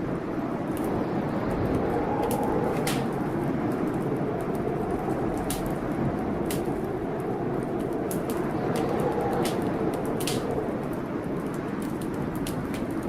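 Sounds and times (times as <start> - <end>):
fire popping: 0.0 - 13.0
storm rushing: 0.0 - 13.0
wood fire crackling: 0.0 - 13.0.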